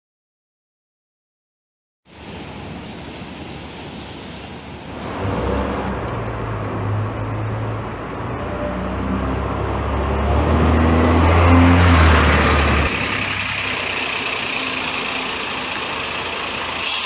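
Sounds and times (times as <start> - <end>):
bus approaching with hissy noise: 2.1 - 17.0
diesel bus engine passing: 2.2 - 17.0.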